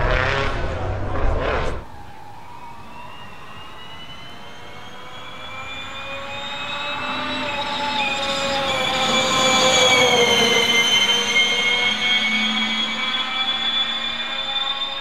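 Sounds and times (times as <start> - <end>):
car passing: 0.0 - 12.8
electric car drivetrain whining: 0.6 - 15.0.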